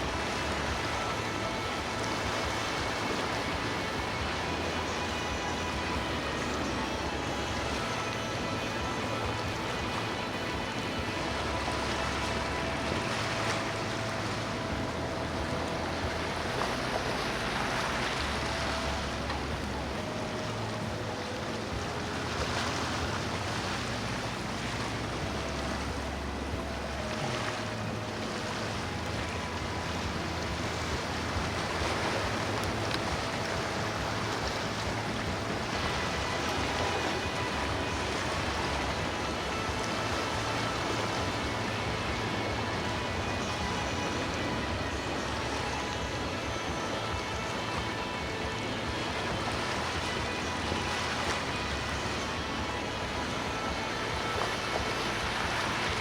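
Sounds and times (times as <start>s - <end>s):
boat engines humming: 0.0s - 56.0s
water and waves washing: 0.0s - 56.0s.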